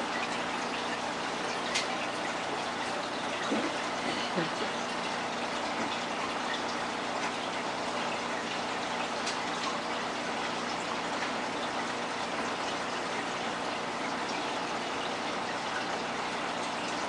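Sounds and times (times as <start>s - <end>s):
aquarium water bubbling: 0.0s - 17.0s.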